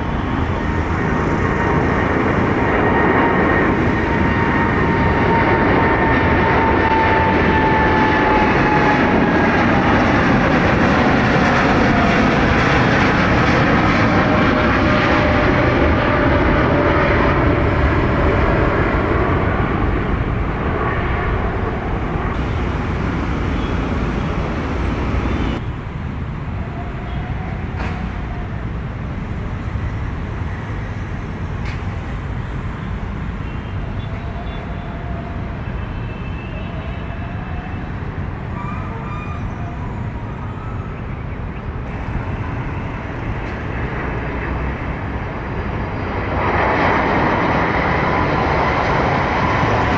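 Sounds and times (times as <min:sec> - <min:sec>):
jet airliner engines whining: 0:00.0 - 0:49.9.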